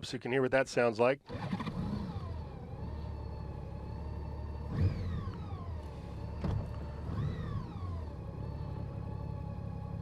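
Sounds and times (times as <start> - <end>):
engine revving: 1.3 - 10.0.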